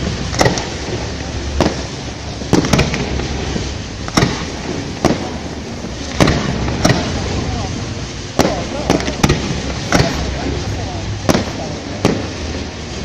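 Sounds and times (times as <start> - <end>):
background noise: 0.0 - 13.0
fireworks bursting: 0.0 - 13.0.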